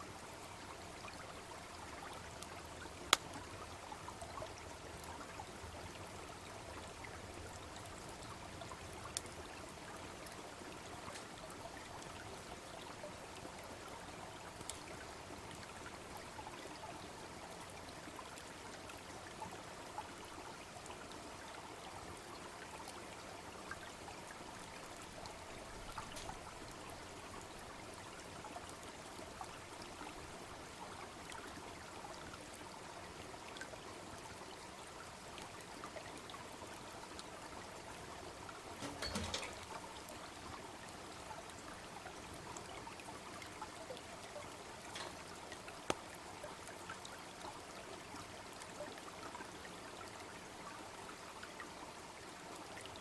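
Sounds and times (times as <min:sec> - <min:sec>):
babbling stream trickling: 0:00.0 - 0:53.0.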